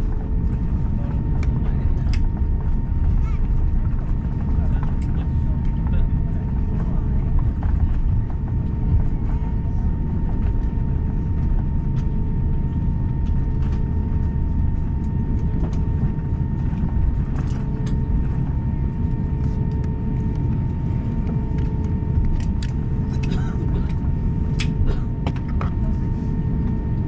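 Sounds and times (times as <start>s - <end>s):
aircraft cabin rumble: 0.0s - 27.0s
steady tonal hum: 0.0s - 27.0s.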